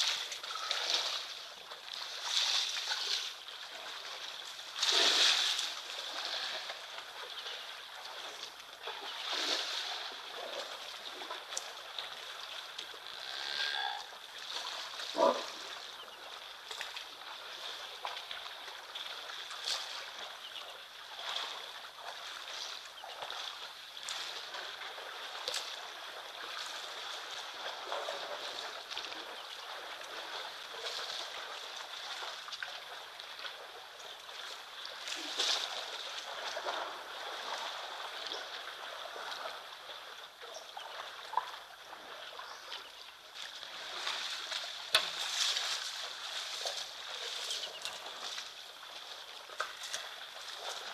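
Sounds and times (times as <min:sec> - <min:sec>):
water splashing and sloshing: 0:00.0 - 0:50.9.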